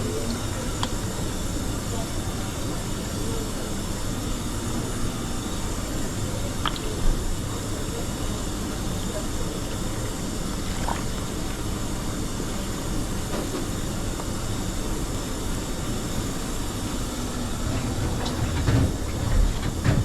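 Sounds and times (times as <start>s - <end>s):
kitchen machinery hum and hiss: 0.0s - 20.0s.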